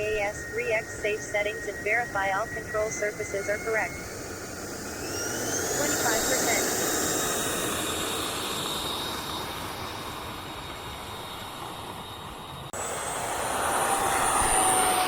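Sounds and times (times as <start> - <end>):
high whine: 0.0 - 15.0
rushing fan noise: 0.0 - 15.0.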